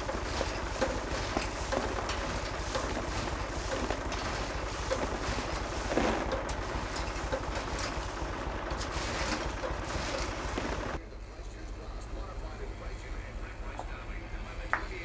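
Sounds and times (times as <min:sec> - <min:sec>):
steady mechanical running noise: 0:00.0 - 0:15.0.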